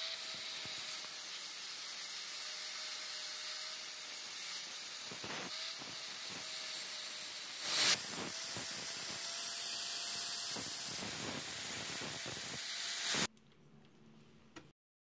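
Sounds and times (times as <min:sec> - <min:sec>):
angle grinder grinding steel: 0:00.0 - 0:13.3.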